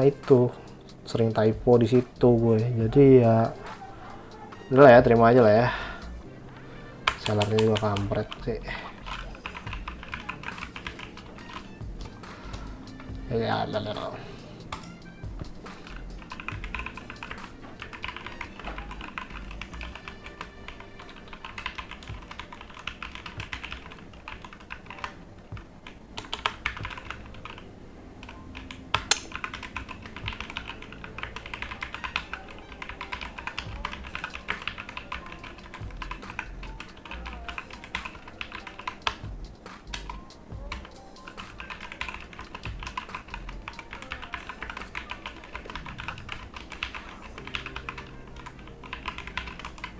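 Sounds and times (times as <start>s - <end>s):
mechanical keyboard typing: 7.0s - 49.9s.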